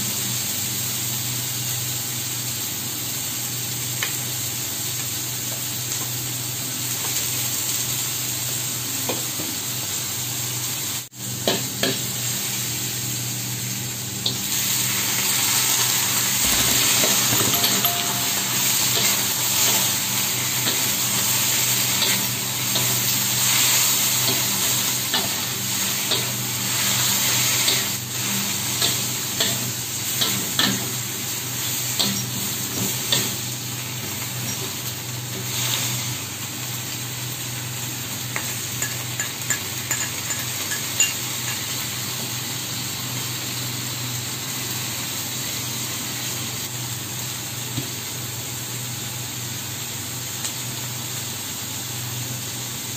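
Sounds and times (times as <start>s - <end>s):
food sizzling in hot oil: 0.0s - 52.9s.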